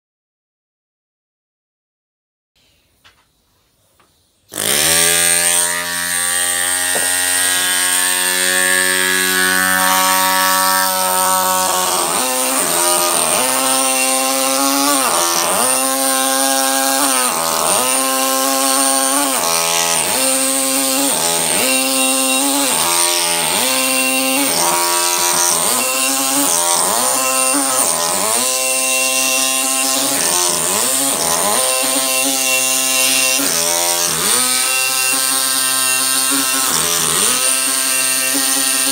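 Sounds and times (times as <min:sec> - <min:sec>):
pneumatic hammer chiseling stone: 0:04.5 - 0:38.9.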